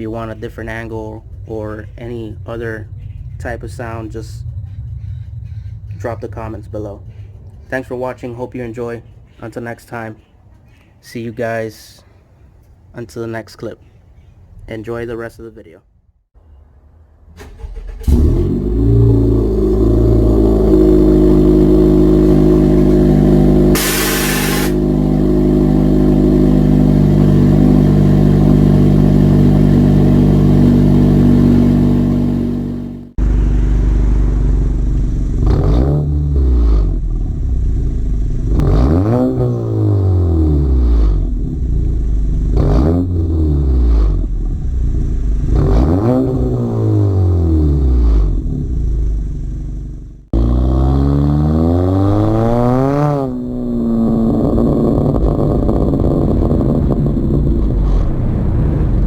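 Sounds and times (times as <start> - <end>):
car exhaust drone and revs: 0.0 - 7.7, 17.8 - 59.0.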